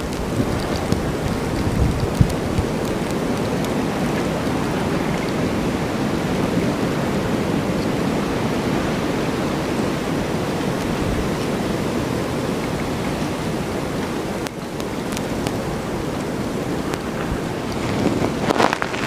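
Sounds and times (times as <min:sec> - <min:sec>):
snowstorm wind rushing: 0:00.0 - 0:19.0.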